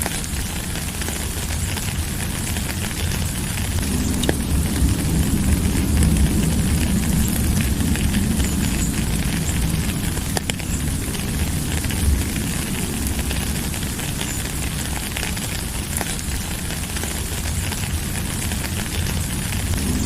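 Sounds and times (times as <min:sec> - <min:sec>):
low rumble: 0:00.0 - 0:20.0
rain falling: 0:00.0 - 0:20.0
raindrops ticking: 0:00.0 - 0:20.0.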